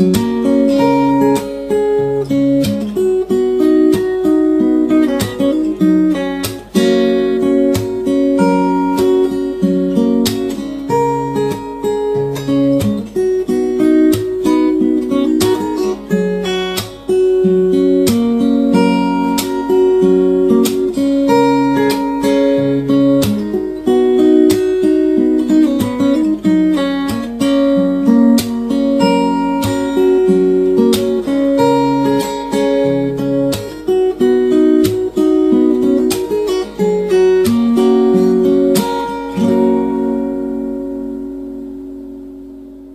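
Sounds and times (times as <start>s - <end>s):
plucked string instrumental music: 0.0s - 42.9s.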